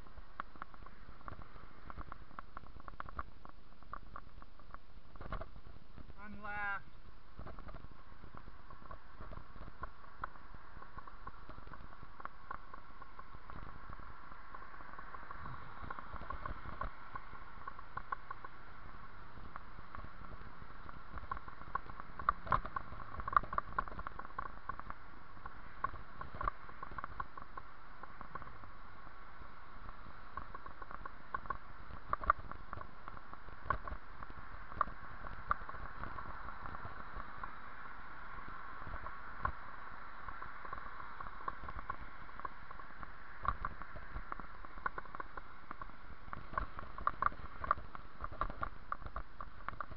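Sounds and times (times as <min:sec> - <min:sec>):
bicycle rolling on pavement: 0:00.0 - 0:06.2, 0:06.8 - 0:49.9.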